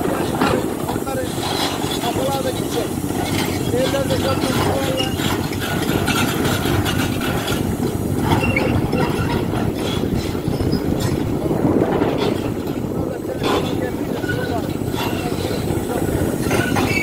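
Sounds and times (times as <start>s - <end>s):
excavator engine rumbling: 0.0s - 17.0s.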